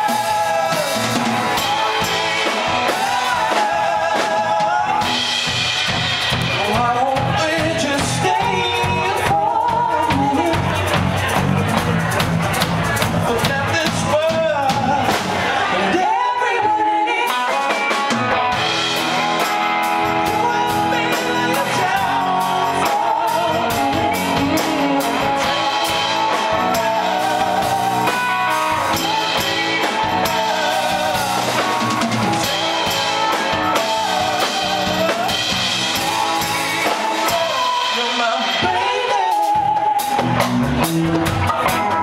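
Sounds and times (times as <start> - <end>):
person singing: 0.0 - 5.7, 6.3 - 11.1, 13.2 - 18.2, 18.9 - 42.0
drum kit: 0.0 - 42.0
electric guitar: 0.0 - 42.0.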